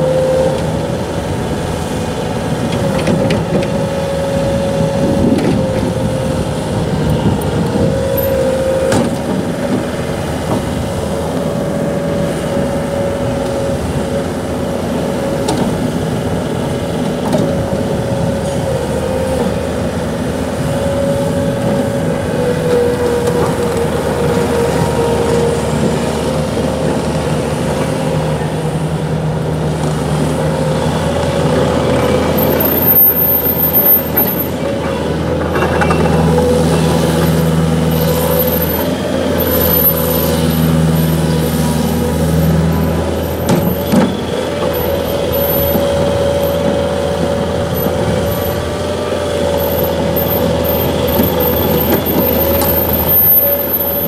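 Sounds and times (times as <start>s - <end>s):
track loader diesel engine: 0.0s - 54.0s.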